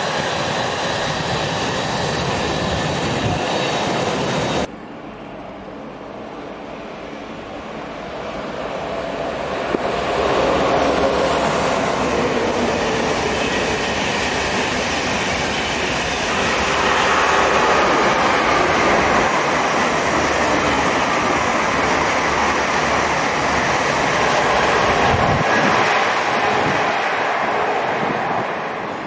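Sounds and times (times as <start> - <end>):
electric trains passing at speed: 0.0 - 29.0
wheels rushing on rail: 0.0 - 29.0.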